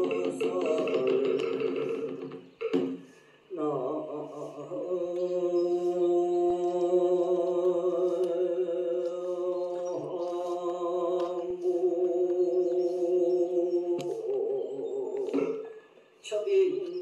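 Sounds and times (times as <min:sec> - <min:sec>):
monk chanting: 0:00.0 - 0:17.0.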